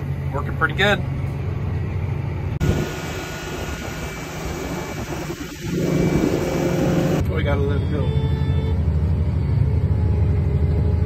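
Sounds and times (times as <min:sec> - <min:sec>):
tractor diesel engine drone: 0:00.0 - 0:11.0.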